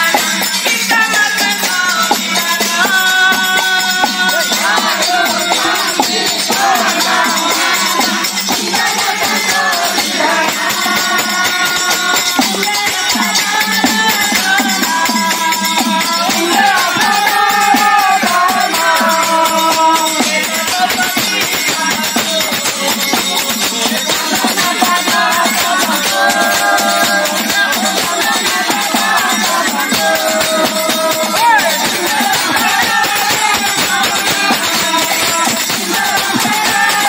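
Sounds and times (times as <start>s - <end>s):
group singing devotional song: 0.0s - 37.0s
jingling hand percussion: 0.0s - 37.0s.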